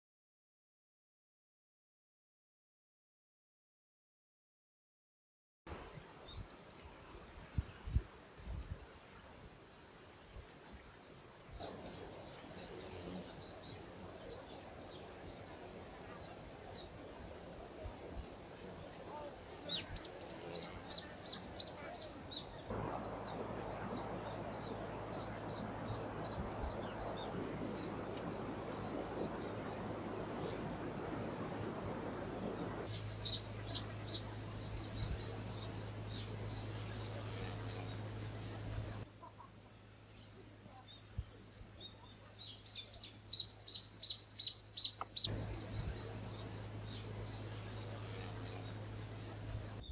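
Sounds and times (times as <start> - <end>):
birds chirping: 6.2 - 49.9.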